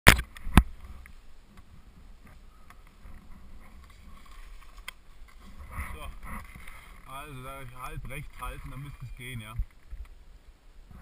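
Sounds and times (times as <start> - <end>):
faint clicks of ski gear: 0.1 - 10.2
low wind rumble on microphone: 0.1 - 11.0.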